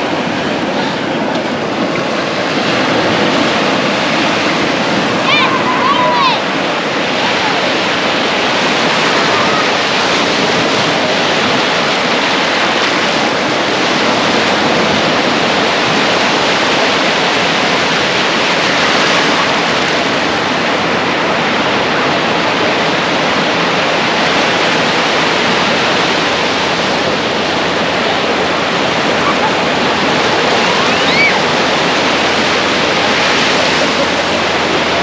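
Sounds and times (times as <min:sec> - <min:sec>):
ocean surf breaking waves: 0:00.0 - 0:35.0.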